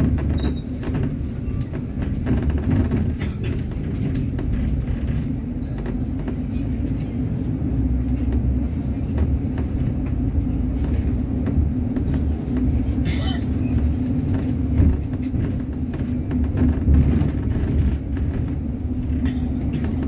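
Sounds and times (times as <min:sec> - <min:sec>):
bus engine drone and road noise: 0:00.0 - 0:20.0
light knocks and rattles: 0:00.0 - 0:20.0.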